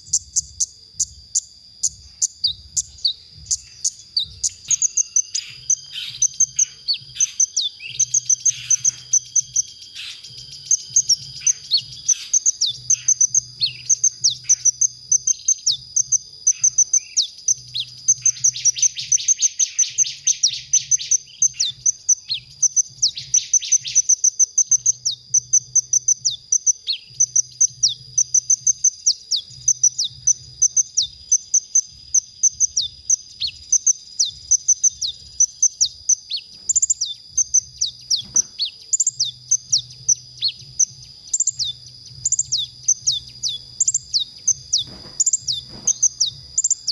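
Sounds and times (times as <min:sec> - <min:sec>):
bird buzzy trill: 0:00.0 - 0:46.9
bird singing high thin chirps: 0:00.0 - 0:46.9.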